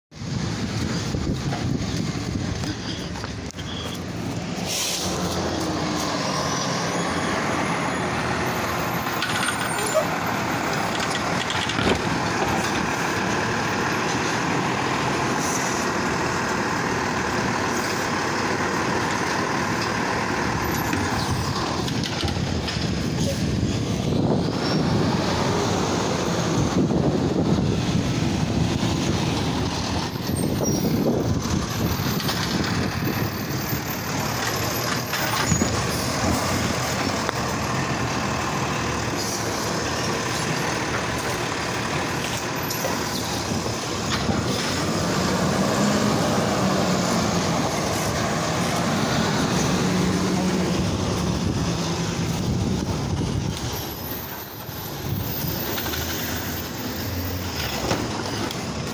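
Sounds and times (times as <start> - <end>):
garbage truck running: 0.2 - 58.9.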